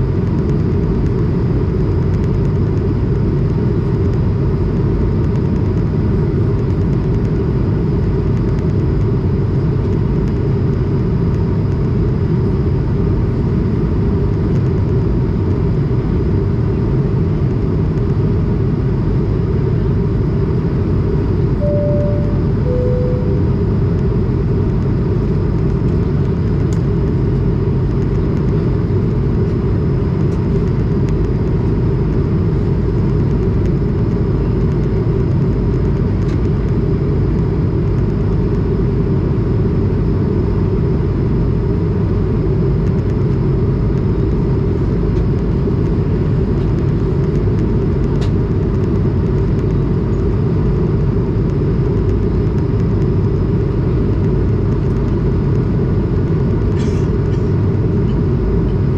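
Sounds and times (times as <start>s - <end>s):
aircraft cabin drone: 0.0s - 58.9s
faint steady whine: 0.0s - 58.9s.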